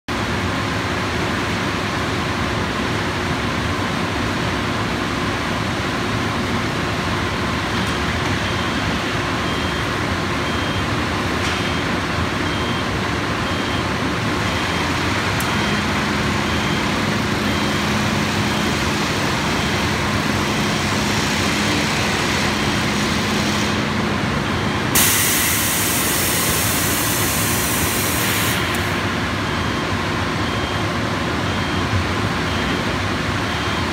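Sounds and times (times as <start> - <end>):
industrial conveyor oven running: 0.1 - 33.9.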